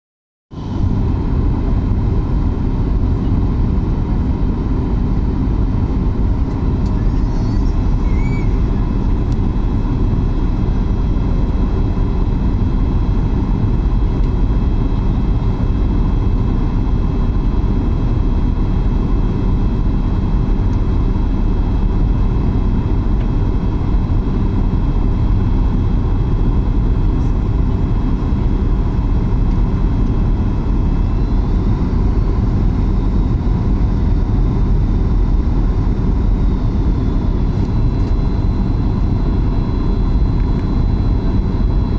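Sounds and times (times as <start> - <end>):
aircraft cabin engine roar: 0.5 - 41.9.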